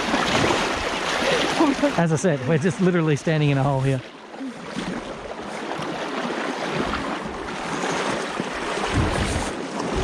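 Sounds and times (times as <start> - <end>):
stream water rushing and splashing: 0.0 - 10.0.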